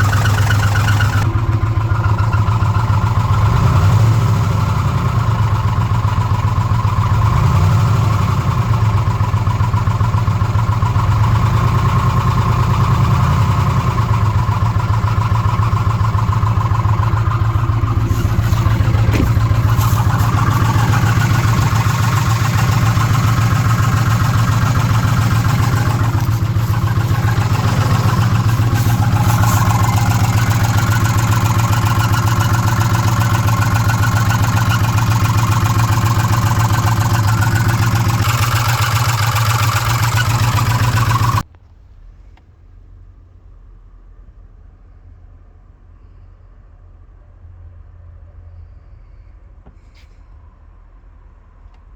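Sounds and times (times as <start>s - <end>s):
engine idling: 0.0s - 44.2s.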